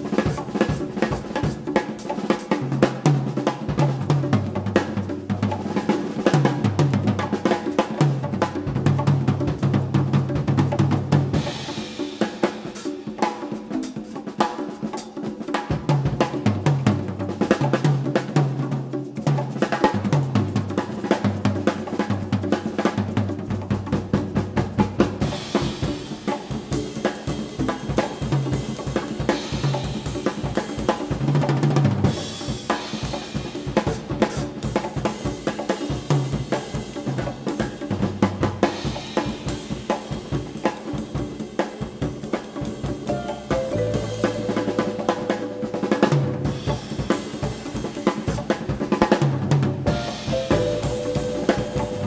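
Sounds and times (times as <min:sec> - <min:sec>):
congas: 0:00.0 - 0:52.0
drum kit solo: 0:00.0 - 0:52.0.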